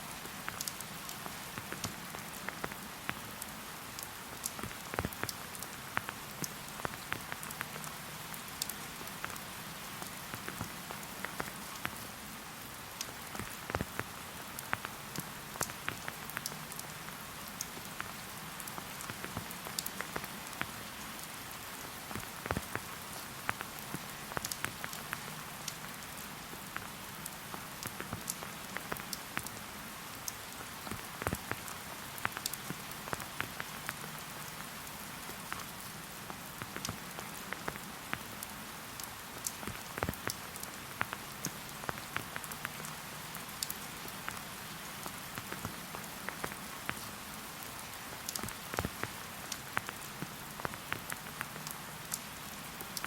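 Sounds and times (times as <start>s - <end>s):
rain hiss: 0.0s - 53.0s
raindrops ticking on surfaces: 0.0s - 53.0s.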